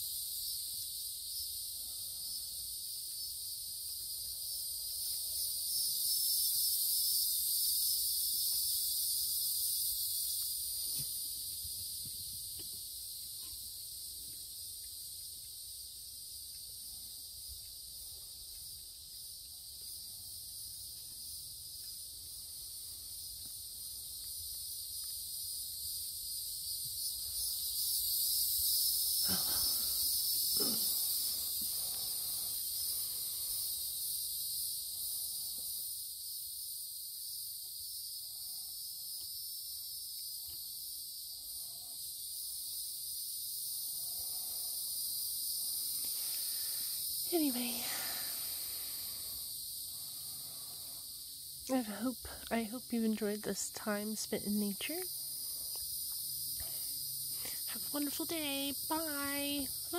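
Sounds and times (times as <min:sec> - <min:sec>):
insects buzzing drone: 0:00.0 - 0:59.9.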